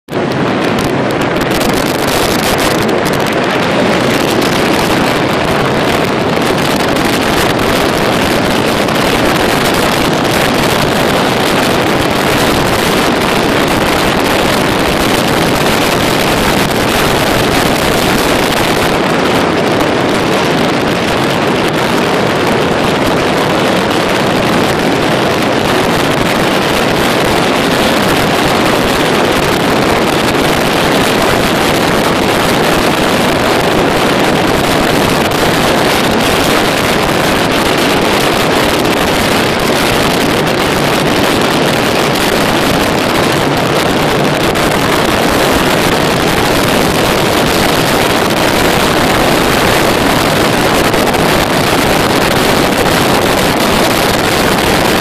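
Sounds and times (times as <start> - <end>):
motorcycle engine and tyres: 0.0 - 55.0
wind rushing over microphone: 0.0 - 55.0.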